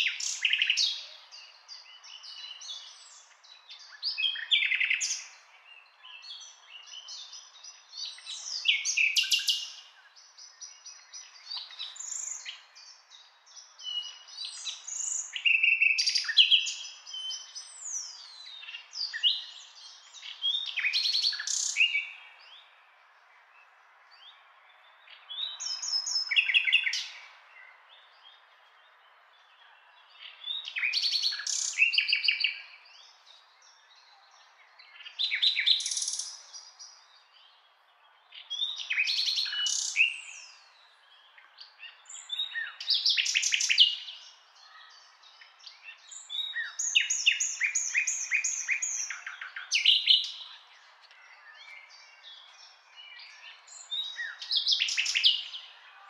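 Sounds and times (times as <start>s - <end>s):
birds singing trills: 0.0s - 56.0s.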